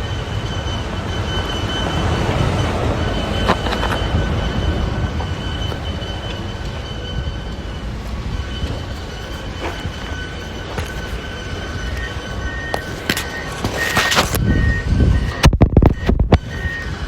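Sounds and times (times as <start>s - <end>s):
diesel loader rumbling with whine: 0.0s - 17.0s.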